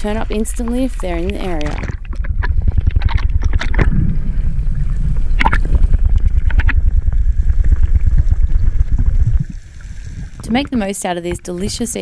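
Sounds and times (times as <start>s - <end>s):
underwater thumping of struggling fish: 0.0s - 10.7s.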